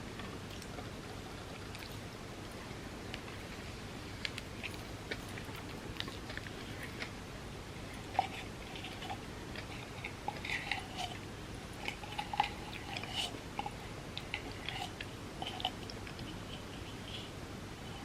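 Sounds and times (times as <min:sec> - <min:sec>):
faint steady hiss: 0:00.0 - 0:18.0
chewing cookies: 0:00.1 - 0:18.0.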